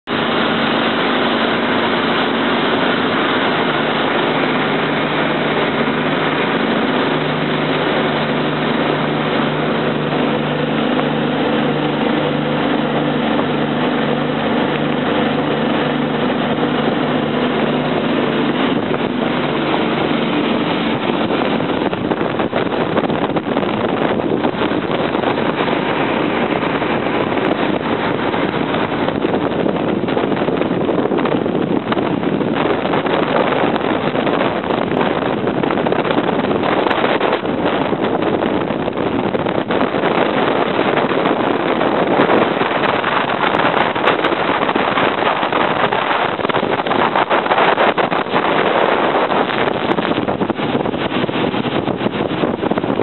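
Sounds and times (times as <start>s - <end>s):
boat engine hum: 0.0s - 53.0s
churning wake water: 0.0s - 53.0s
wind buffeting microphone: 0.0s - 53.0s.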